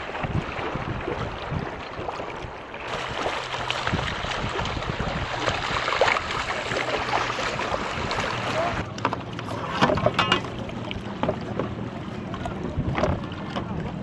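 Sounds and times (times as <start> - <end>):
wind buffeting the microphone: 0.0 - 8.9, 9.9 - 14.0
water rushing along a boat: 0.0 - 14.0.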